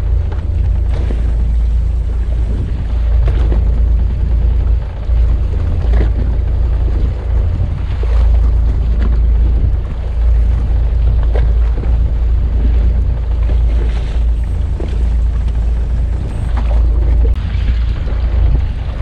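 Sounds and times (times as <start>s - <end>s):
choppy water washing on boat hull: 0.0s - 19.0s
wind rumbling on microphone: 0.0s - 19.0s.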